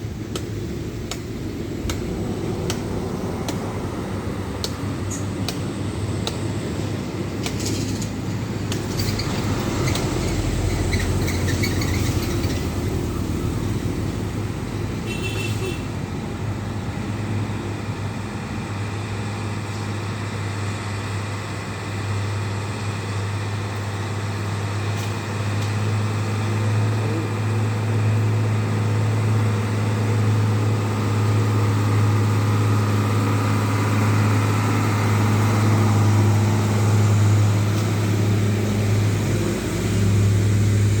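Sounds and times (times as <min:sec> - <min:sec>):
truck diesel engine labouring: 0:00.0 - 0:41.0.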